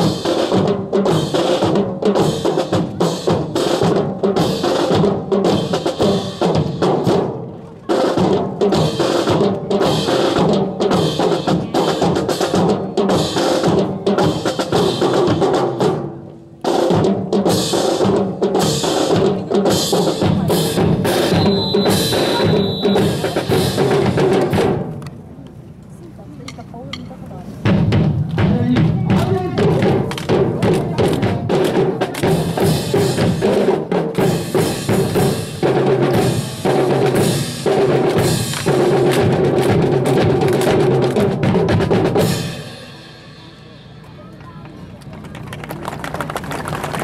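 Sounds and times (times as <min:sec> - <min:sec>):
drum corps marching cadence: 0:00.0 - 0:47.0.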